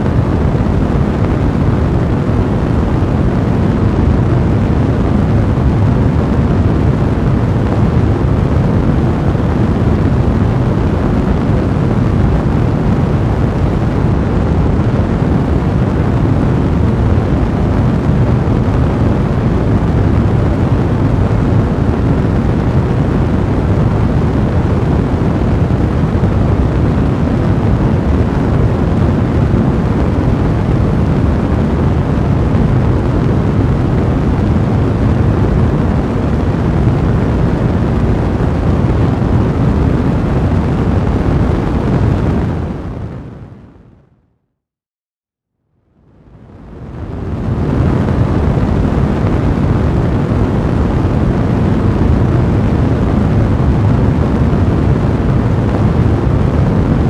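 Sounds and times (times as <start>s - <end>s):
fire crackling and rumbling: 0.0s - 44.0s, 46.0s - 57.0s.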